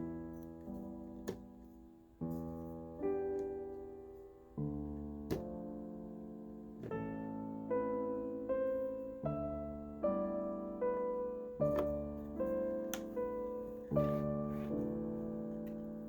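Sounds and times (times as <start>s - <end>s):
slow solo piano music: 0.0s - 16.0s.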